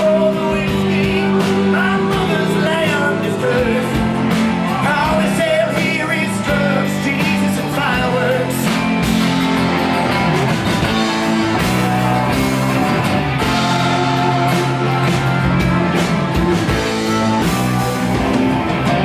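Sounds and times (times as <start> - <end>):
bass guitar: 0.0 - 19.0
drum kit: 0.0 - 19.0
electric guitars: 0.0 - 19.0.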